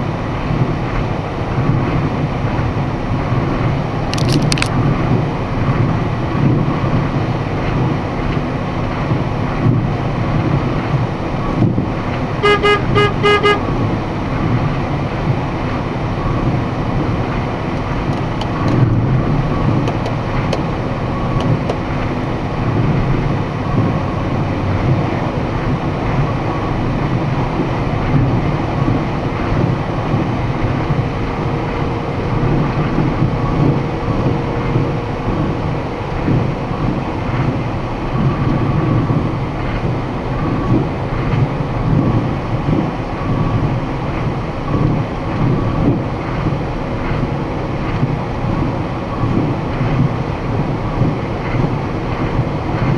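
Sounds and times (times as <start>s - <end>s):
truck engine and road rumble: 0.0s - 52.9s.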